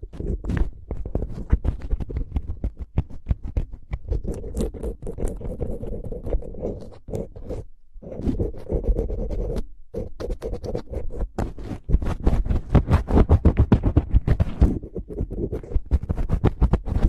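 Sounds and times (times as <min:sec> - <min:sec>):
quick scratching and scraping: 0:00.0 - 0:17.0.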